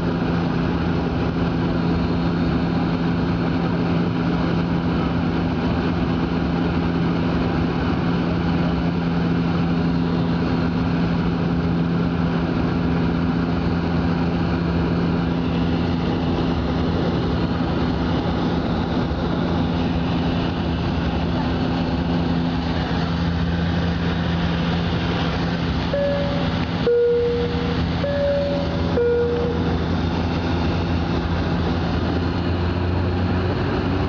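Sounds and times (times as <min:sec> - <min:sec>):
airliner engines droning in cabin: 0:00.0 - 0:34.0.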